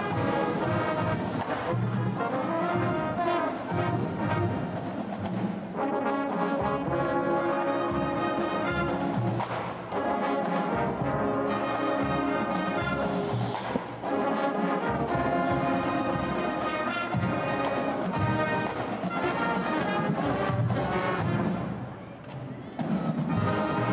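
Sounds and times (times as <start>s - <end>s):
marching band brass playing: 0.0s - 21.9s, 22.8s - 23.9s.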